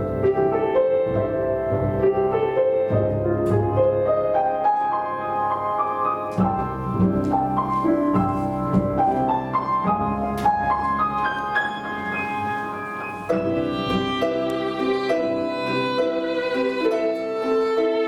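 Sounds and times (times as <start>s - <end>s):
chamber ensemble classical piece: 0.0s - 18.0s.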